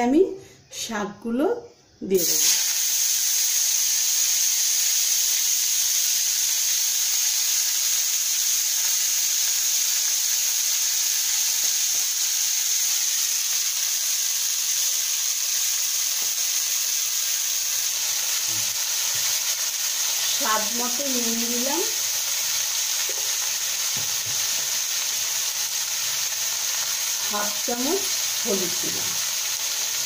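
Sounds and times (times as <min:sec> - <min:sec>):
leaves sizzling in hot oil: 0:02.1 - 0:30.0.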